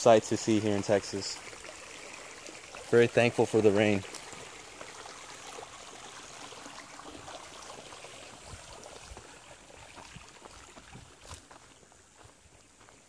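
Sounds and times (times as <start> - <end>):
creek running over rocks: 0.0 - 13.0.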